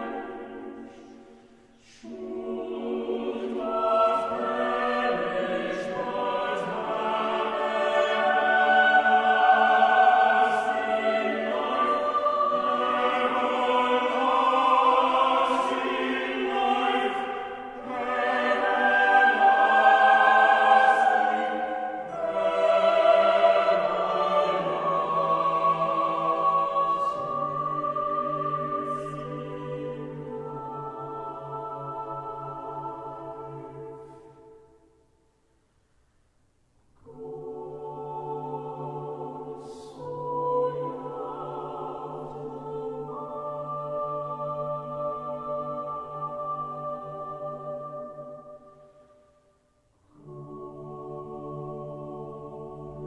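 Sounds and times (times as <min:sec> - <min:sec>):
choir singing slow phrases: 0:00.0 - 0:35.5, 0:36.9 - 0:53.0.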